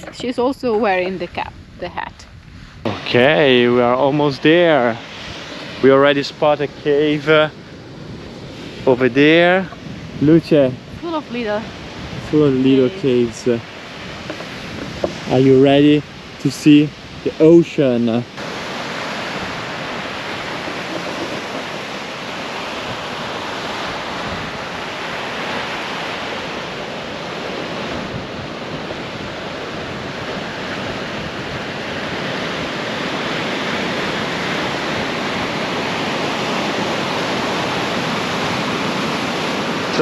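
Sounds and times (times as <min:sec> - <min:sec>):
ocean surf breaking on beach: 0:02.8 - 0:40.0.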